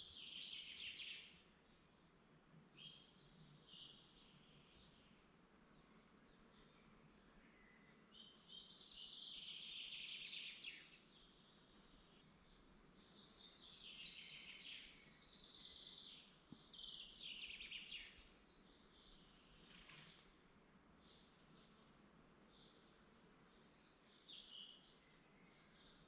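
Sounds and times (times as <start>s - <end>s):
faint steady background hiss: 0.0s - 26.0s
songbird trills and warbles: 0.0s - 26.0s.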